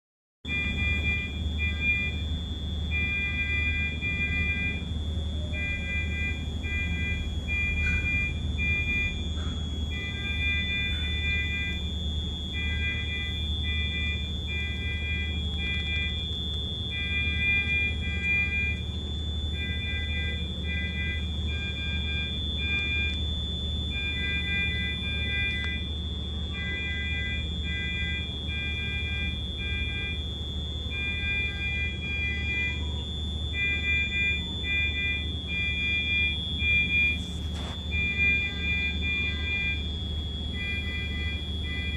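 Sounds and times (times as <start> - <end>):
continuous high-pitched tone: 0.4 - 41.9
low equipment hum: 0.5 - 41.9
monitor alarm beeps: 0.5 - 41.9.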